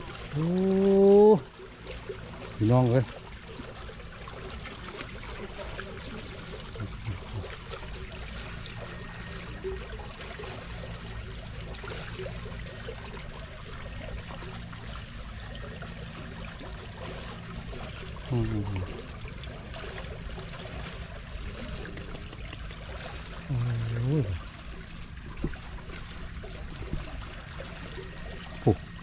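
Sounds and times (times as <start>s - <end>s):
water trickling into channel: 0.0s - 29.0s.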